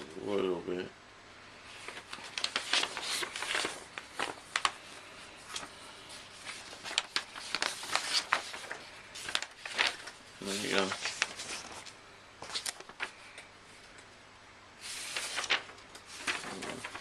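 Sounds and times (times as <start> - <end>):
paper and packaging rustling: 1.7 - 13.5, 14.8 - 17.0.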